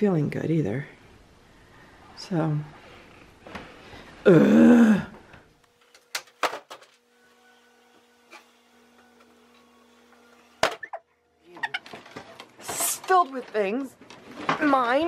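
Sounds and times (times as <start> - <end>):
faint steady hum: 0.0 - 12.6.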